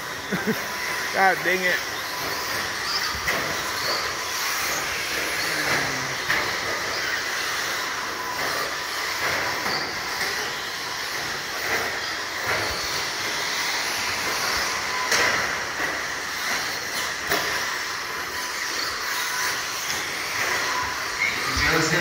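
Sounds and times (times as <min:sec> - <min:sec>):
rc truck motors whining: 0:00.0 - 0:22.0.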